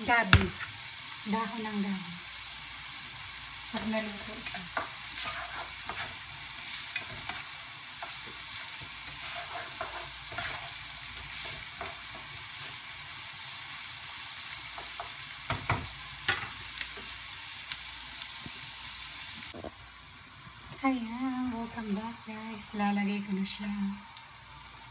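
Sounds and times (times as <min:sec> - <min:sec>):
food sizzling in frying pan: 0:00.0 - 0:24.9.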